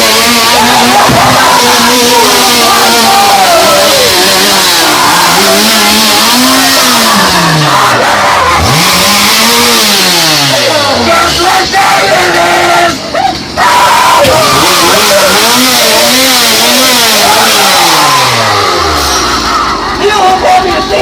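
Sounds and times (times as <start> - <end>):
chainsaw engine revving: 0.0 - 20.5.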